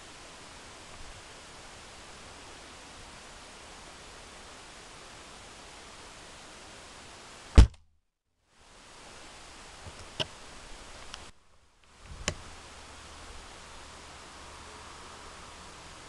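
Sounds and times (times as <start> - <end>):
steady hiss: 0.0 - 7.7, 8.4 - 16.0.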